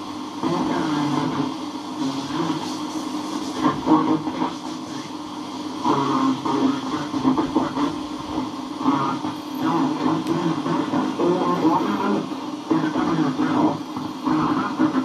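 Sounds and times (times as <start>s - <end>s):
steady radio hiss: 0.0s - 15.0s
voice on am radio: 0.4s - 15.0s.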